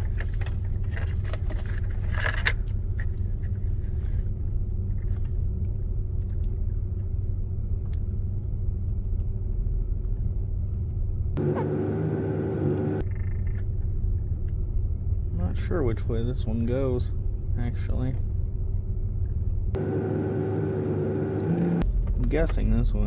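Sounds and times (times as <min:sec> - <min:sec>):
low rumble: 0:02.8 - 0:23.0.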